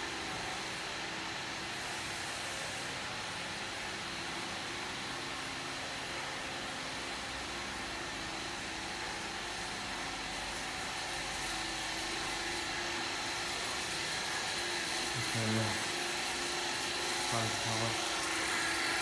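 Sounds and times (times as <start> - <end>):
vacuum pumps and motor whirring: 0.0 - 19.0.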